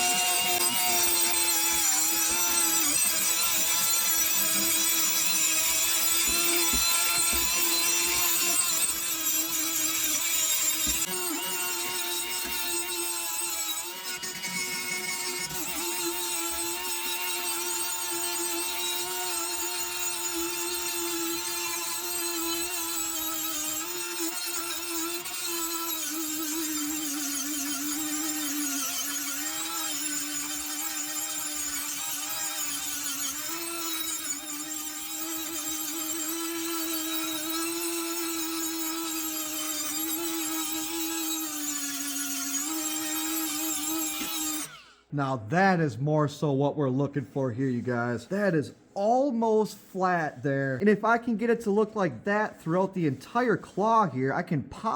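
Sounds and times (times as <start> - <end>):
power tool grinding metal: 0.0 - 45.1.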